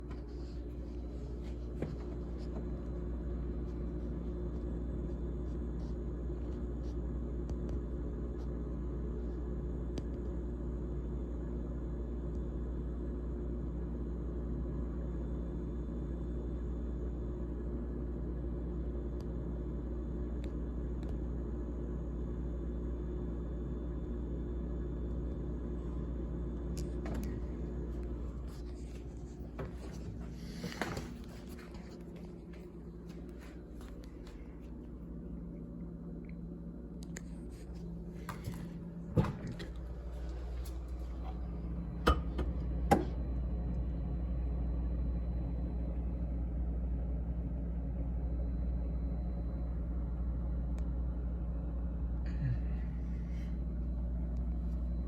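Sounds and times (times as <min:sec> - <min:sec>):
refrigerator humming: 0:00.0 - 0:55.0.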